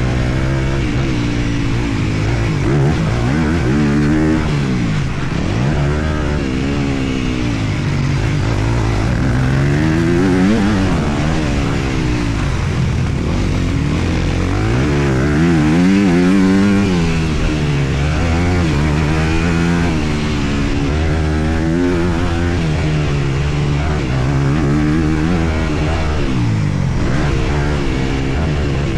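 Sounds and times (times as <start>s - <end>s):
motocross bike engine revving: 0.0s - 28.9s.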